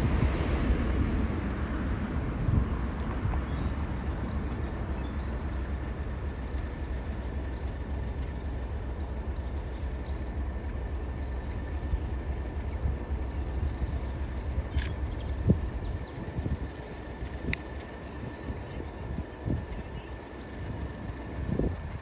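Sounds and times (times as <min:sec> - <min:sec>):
train rumbling on tracks: 0:00.0 - 0:22.0.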